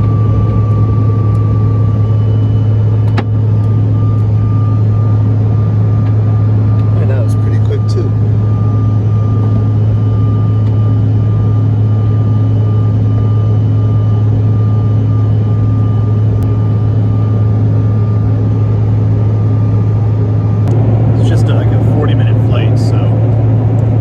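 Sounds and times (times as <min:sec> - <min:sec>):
jet cabin engine drone: 0:00.0 - 0:24.0
thin engine whine: 0:00.0 - 0:24.0.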